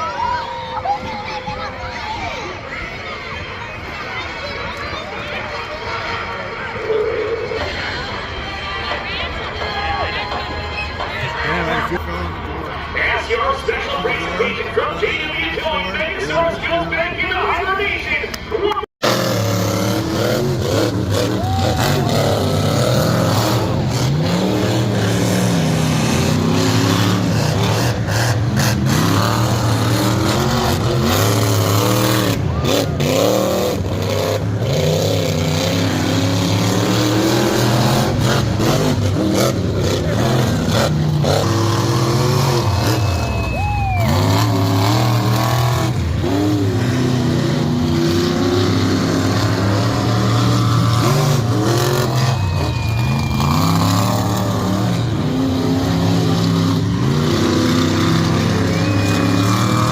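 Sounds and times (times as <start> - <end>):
racing truck engines revving: 0.0 - 59.9.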